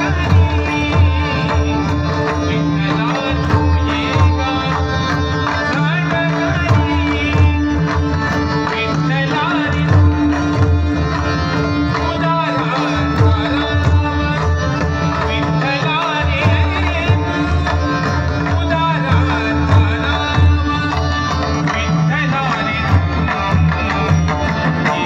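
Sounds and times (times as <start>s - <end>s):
harmonium chords: 0.0s - 25.0s
man singing devotional song: 0.0s - 25.0s.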